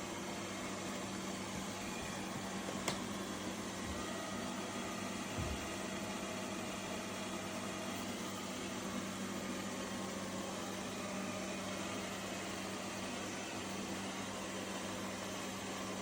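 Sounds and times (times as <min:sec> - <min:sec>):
robot vacuum motor humming: 0:00.5 - 0:16.0.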